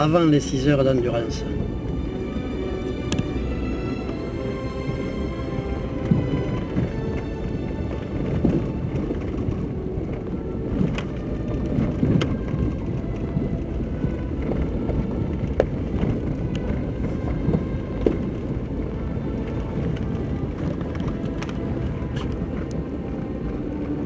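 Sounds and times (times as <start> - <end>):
vehicle rumbling on dirt track: 0.0 - 24.0.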